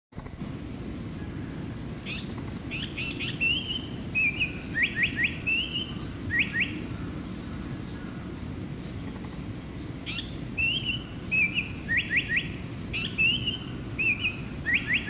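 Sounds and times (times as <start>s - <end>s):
steady low rumble: 0.2s - 15.0s
flycatcher singing: 1.1s - 15.0s.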